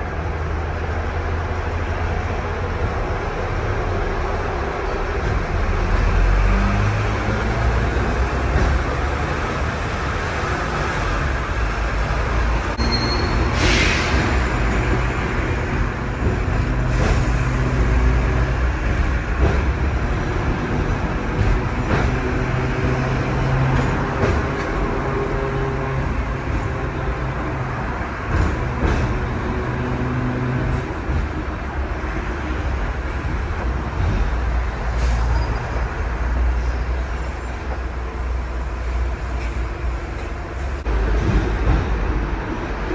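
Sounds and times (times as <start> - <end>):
bus engine hum: 0.0 - 42.9
road noise: 0.0 - 42.9.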